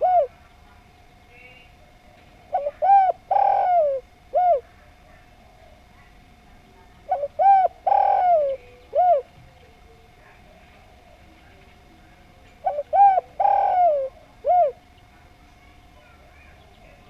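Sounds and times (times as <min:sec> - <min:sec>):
dove cooing: 0:00.0 - 0:06.2, 0:06.8 - 0:11.6, 0:12.3 - 0:15.4.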